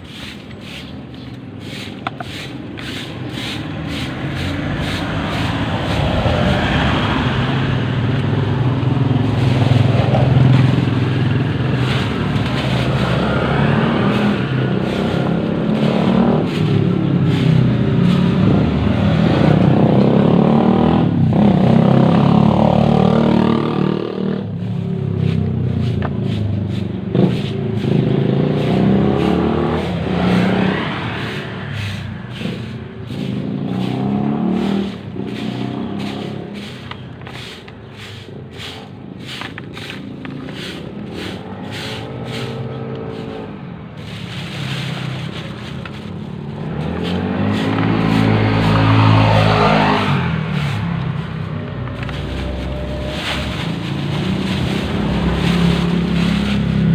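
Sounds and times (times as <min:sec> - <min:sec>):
vehicle engine running: 0:00.0 - 0:23.8, 0:24.6 - 0:56.9.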